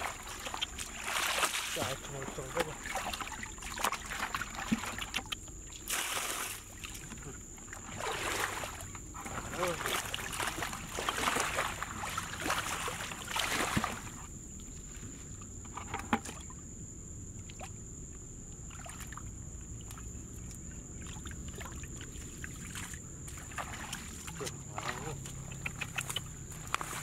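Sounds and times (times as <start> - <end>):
water splashing from bucket: 0.0 - 14.3, 18.7 - 27.0
small splashes and drips: 0.0 - 16.6, 17.4 - 27.0.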